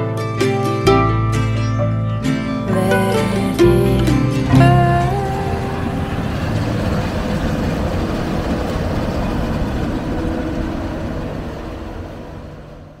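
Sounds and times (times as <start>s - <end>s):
harvester engine droning: 0.0s - 13.0s.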